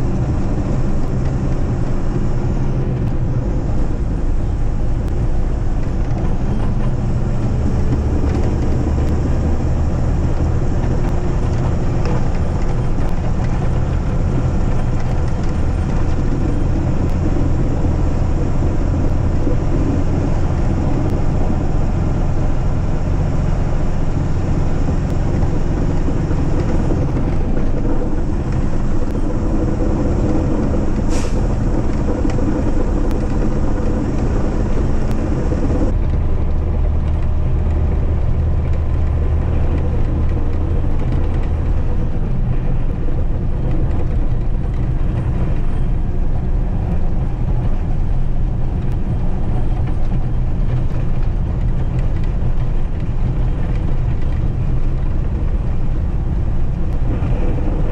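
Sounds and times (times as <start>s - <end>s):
diesel engine droning: 0.0s - 57.9s
plow pushing snow: 0.0s - 57.9s.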